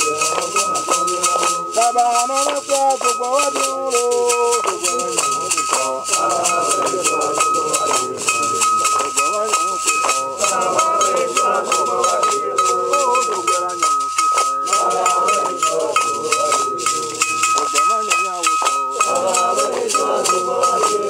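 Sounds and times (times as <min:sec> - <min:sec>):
hand claps: 0:00.0 - 0:21.0
men singing together: 0:00.0 - 0:21.0
metal bell struck: 0:00.0 - 0:21.0
shaker rattle: 0:00.0 - 0:21.0.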